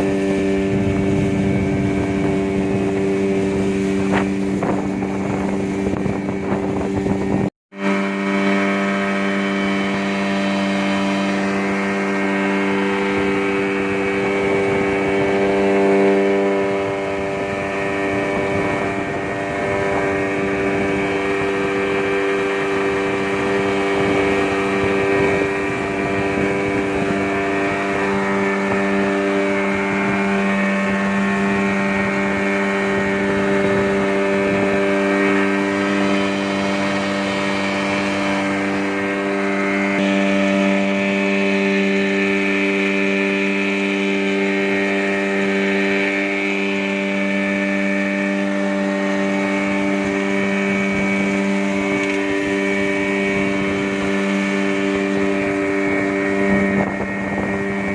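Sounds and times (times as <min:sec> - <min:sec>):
outboard motor running: 0:00.0 - 0:57.9.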